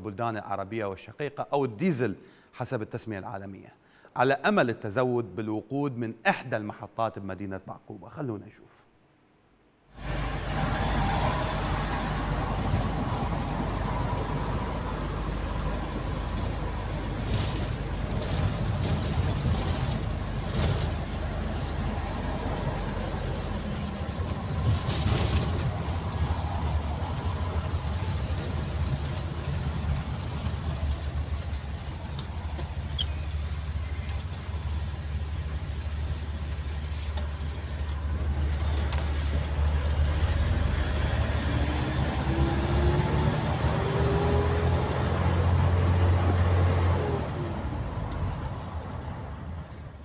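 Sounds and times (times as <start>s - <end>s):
car engine and road rumble: 9.9s - 50.0s.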